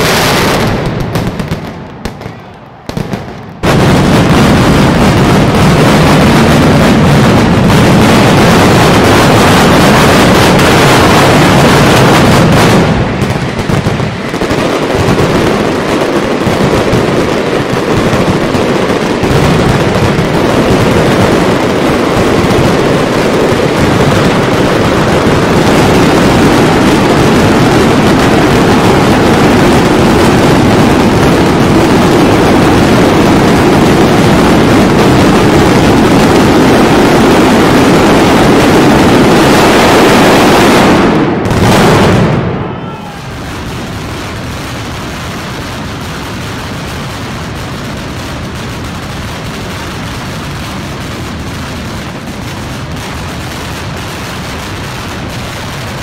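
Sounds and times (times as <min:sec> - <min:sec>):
firecrackers exploding: 0:00.0 - 0:56.0.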